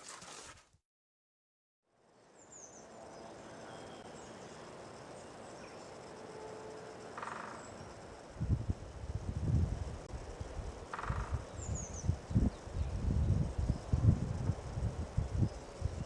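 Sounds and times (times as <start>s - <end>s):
faint outdoor hiss: 1.9s - 16.0s.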